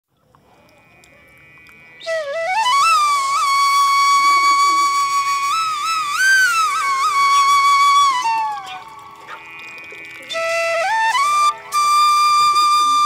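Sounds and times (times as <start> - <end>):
flute melody: 1.9 - 9.4, 10.0 - 13.0.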